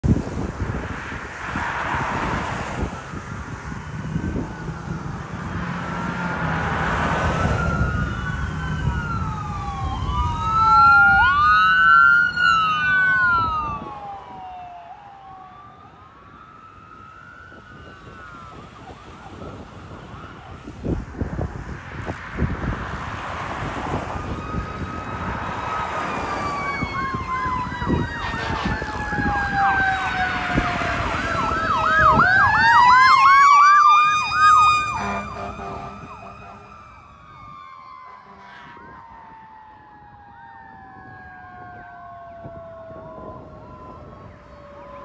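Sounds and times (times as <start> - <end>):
passing traffic: 0.0 - 45.0
ambulance siren wailing: 1.4 - 45.0.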